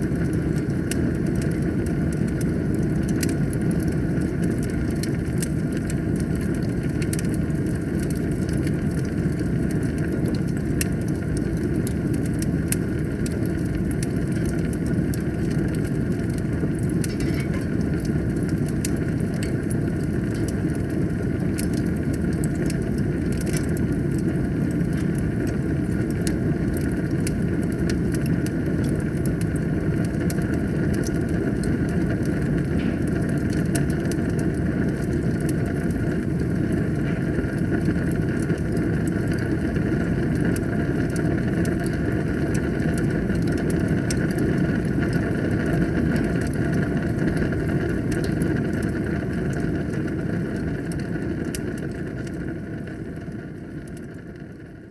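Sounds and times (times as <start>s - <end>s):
fire crackles and pops: 0.0s - 54.9s
low rumble of flames: 0.0s - 54.9s.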